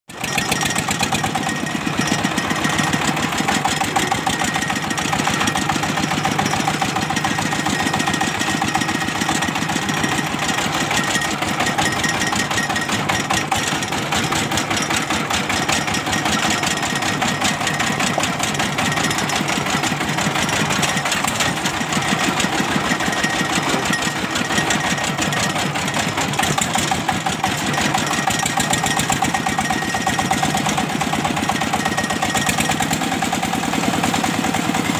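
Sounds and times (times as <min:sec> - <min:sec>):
diesel engine chugging: 0:00.1 - 0:34.9.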